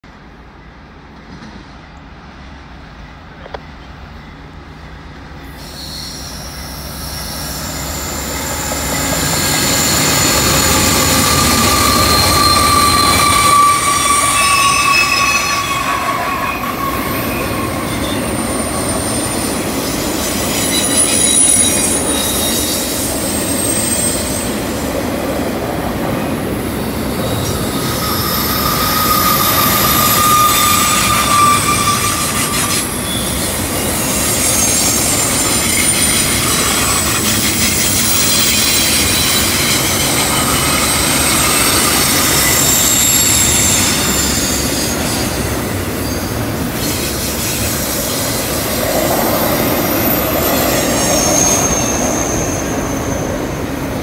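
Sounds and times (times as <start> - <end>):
diesel locomotive engines: 0.0 - 54.0
train wheels squealing: 3.6 - 25.2, 26.1 - 54.0.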